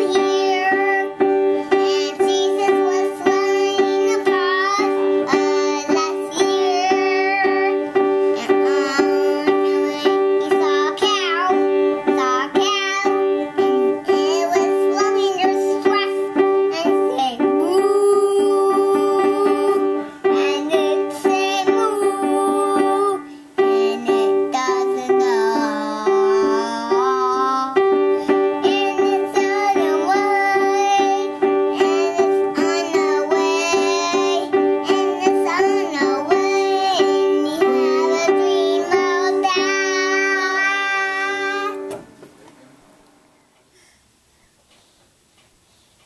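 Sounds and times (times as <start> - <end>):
child singing: 0.0 - 42.0
child playing piano: 0.0 - 42.4.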